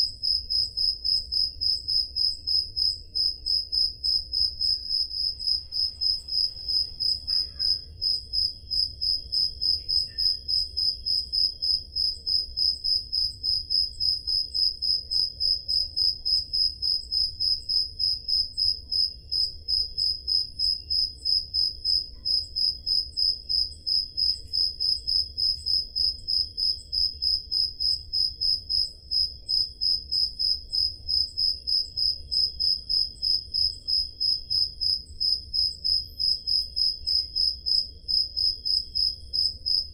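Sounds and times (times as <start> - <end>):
crickets chirping: 0.0 - 39.9
insect trill: 0.0 - 39.9.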